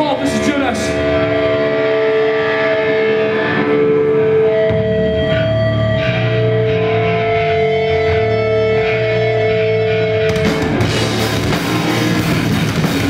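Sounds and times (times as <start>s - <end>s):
distorted electric guitars: 0.0s - 13.0s.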